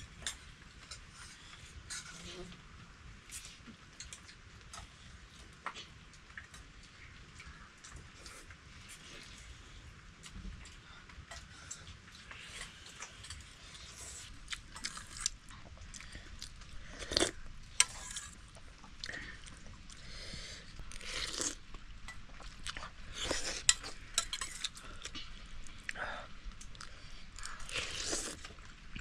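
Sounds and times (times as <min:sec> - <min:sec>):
people chewing: 0:03.2 - 0:29.0.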